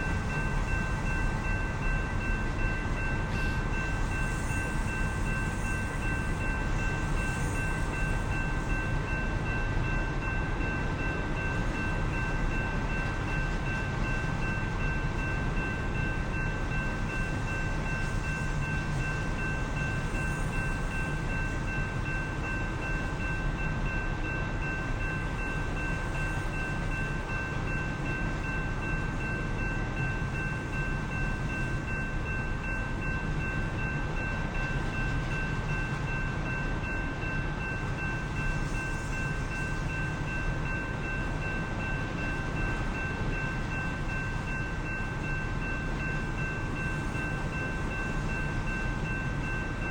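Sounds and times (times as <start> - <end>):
high ringing tones: 0.0 - 49.9
train rumbling by: 0.0 - 49.9.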